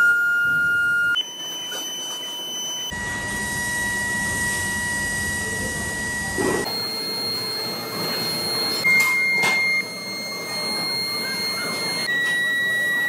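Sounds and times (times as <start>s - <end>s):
furnace high-pitched whine: 0.0s - 13.0s.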